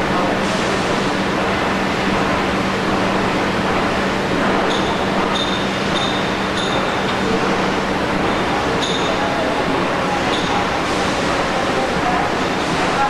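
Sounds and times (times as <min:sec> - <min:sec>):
dense machinery noise: 0:00.0 - 0:13.0.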